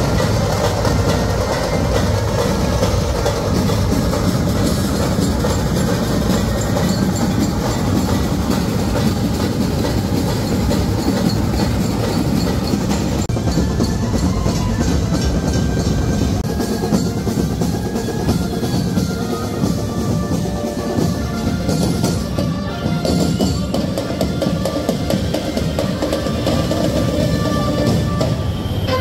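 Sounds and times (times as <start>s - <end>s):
fast clattering drumming: 0.0s - 28.5s.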